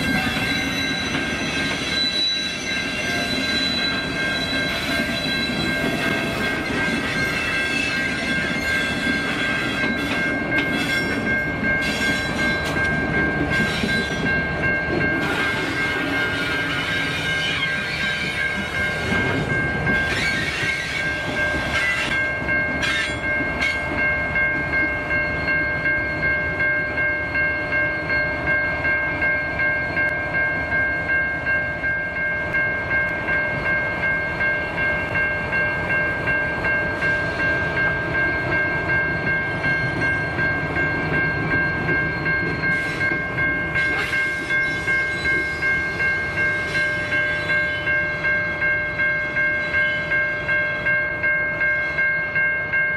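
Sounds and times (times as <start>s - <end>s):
diesel locomotives running: 0.0s - 52.9s
level crossing warning bell: 0.0s - 52.9s
rolling train wagons: 0.0s - 52.9s.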